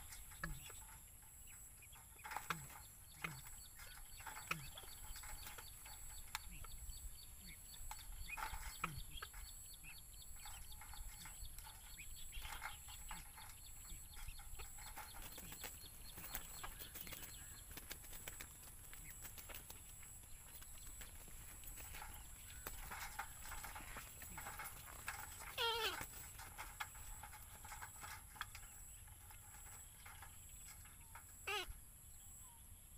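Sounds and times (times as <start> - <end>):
faint bird calls: 0.0 - 32.7.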